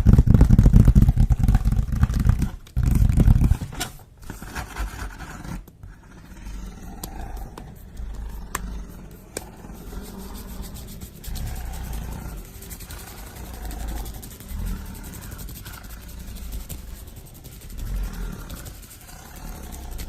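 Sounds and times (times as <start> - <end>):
scratching and rubbing on a surface: 0.0 - 20.0.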